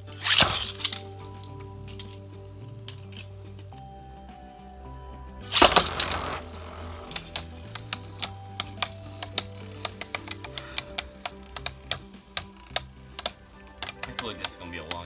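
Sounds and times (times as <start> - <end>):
spinning tops clashing: 0.0 - 3.6, 5.5 - 15.0
spinning tops whirring: 0.0 - 3.7, 5.5 - 15.0
background music: 0.0 - 15.0.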